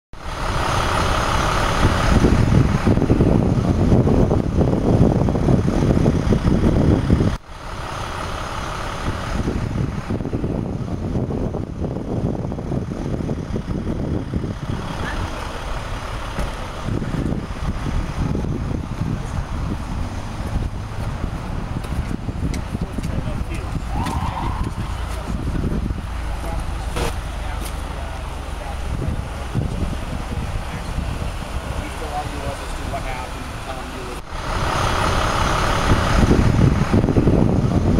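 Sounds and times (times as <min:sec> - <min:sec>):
heavy vehicle engine running: 0:00.2 - 0:37.9
traffic noise: 0:00.2 - 0:37.9.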